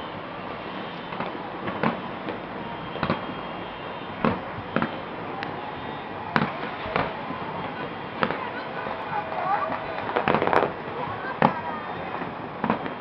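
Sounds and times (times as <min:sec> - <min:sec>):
fireworks bursting: 0:00.6 - 0:13.0.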